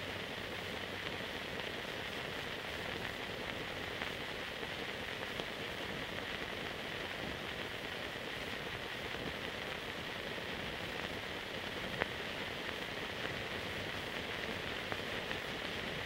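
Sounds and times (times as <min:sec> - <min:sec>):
film transfer hiss: 0:00.0 - 0:16.0.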